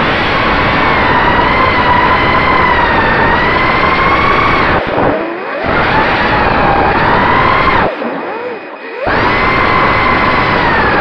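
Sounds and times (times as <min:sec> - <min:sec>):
drone motors whining: 0:00.0 - 0:11.0
rushing wind: 0:00.0 - 0:11.0.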